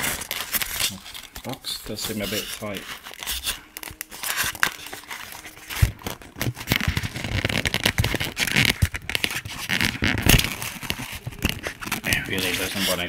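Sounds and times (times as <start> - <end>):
packaging scraping and crinkling: 0.0 - 13.0.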